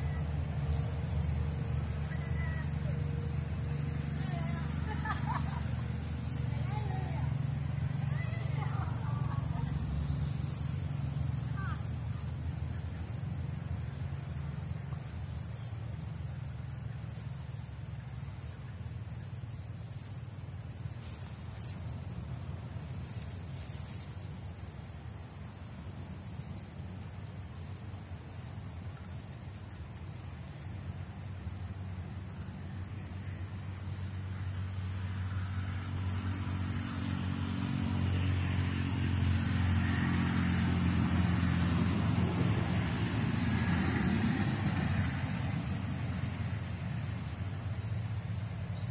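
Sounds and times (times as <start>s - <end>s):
insects buzzing: 0.0s - 48.9s
vehicle engine rumble: 0.0s - 48.9s.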